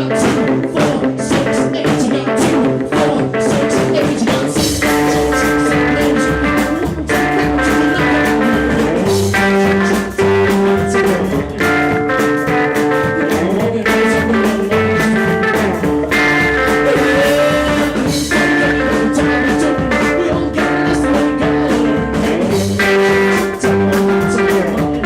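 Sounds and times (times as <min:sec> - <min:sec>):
rockabilly band playing: 0:00.0 - 0:25.0.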